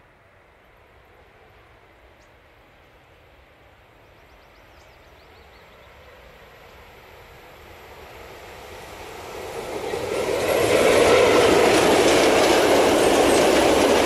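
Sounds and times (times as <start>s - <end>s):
freight train rumble: 0.0s - 14.0s.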